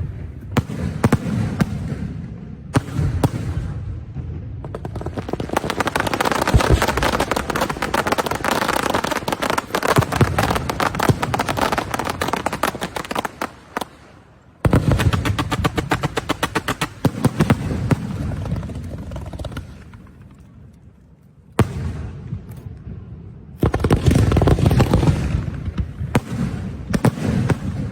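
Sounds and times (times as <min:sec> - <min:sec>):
deep firework booms: 0:00.0 - 0:12.5, 0:14.6 - 0:20.0, 0:21.6 - 0:27.9
fireworks crackling bangs: 0:00.0 - 0:20.3, 0:23.6 - 0:27.9.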